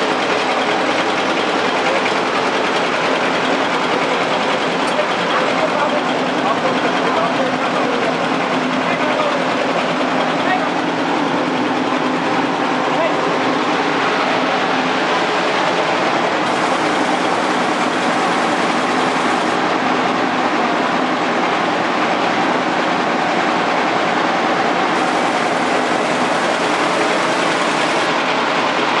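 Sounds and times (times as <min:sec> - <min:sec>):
blower fan rushing air: 0:00.0 - 0:29.0.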